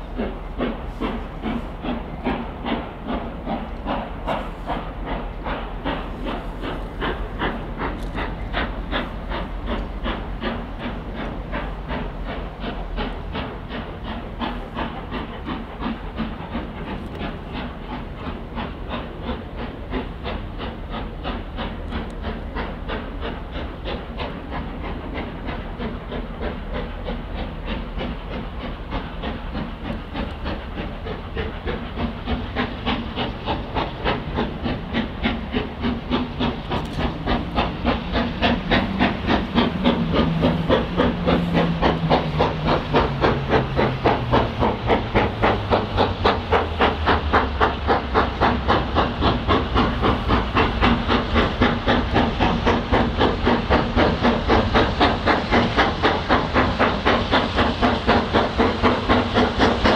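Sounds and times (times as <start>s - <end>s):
steam locomotive exhaust beat: 0.0s - 59.9s.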